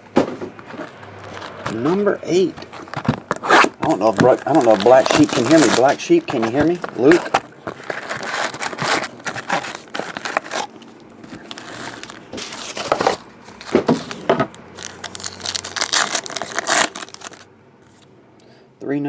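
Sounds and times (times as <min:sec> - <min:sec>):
card pack wrappers crinkling: 0:01.1 - 0:17.5.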